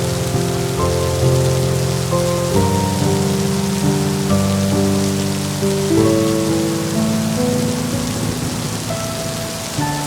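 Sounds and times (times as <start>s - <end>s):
slow melody of soft notes: 0.0s - 10.0s
steady rain falling: 0.0s - 10.0s.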